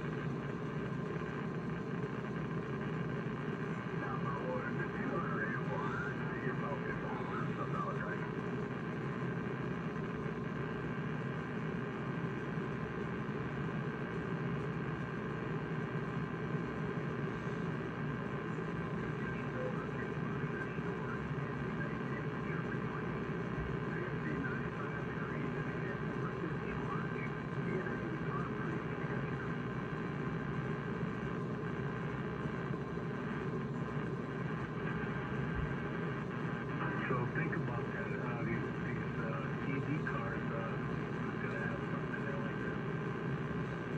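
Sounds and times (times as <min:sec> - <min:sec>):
radio noise with faint buzz: 0:00.0 - 0:43.9.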